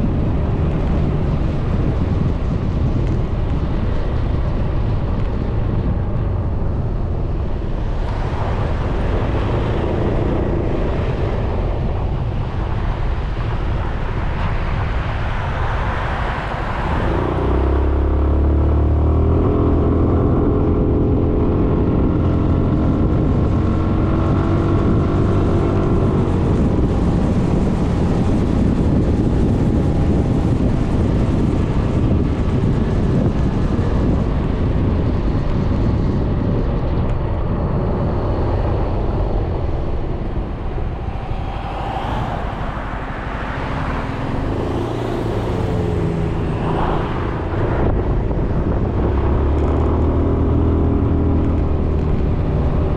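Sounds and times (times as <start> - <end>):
wind and road noise: 0.0 - 52.9.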